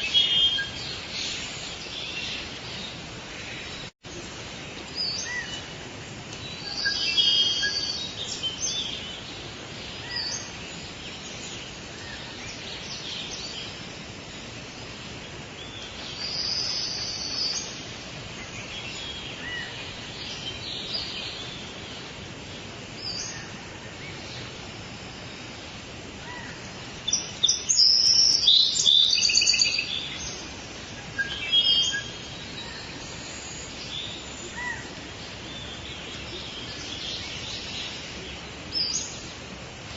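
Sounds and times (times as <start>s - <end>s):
birds calling and chirping: 0.0s - 39.9s
steady background hiss: 0.0s - 39.9s.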